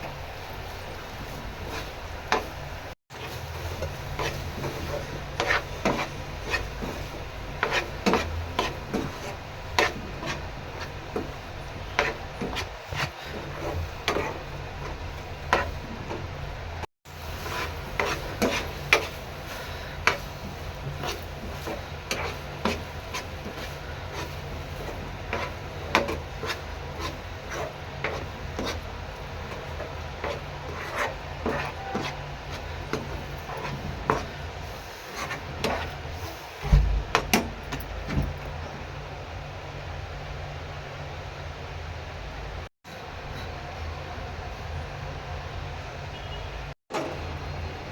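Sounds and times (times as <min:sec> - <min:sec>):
utensil scraping in a pan: 0:00.0 - 0:38.7.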